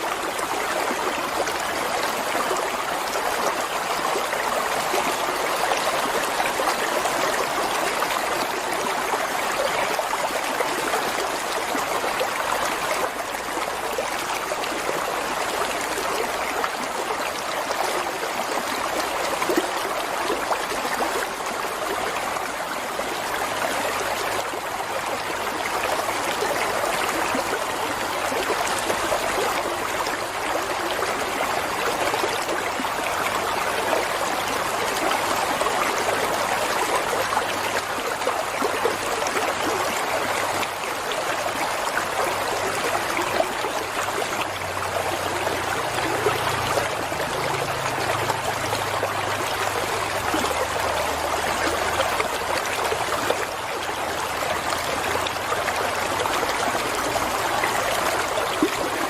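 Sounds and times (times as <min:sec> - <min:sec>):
water flowing over rocks: 0:00.0 - 0:59.0.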